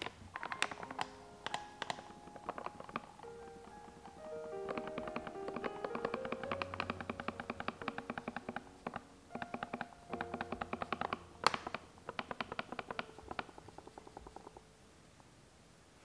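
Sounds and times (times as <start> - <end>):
background music with tapping notes: 0.4 - 13.9.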